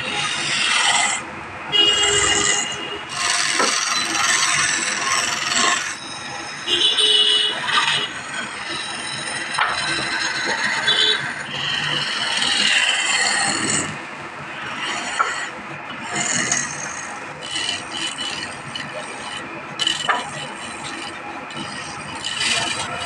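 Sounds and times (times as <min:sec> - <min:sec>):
chisel scraping spinning wood: 0:00.0 - 0:23.0.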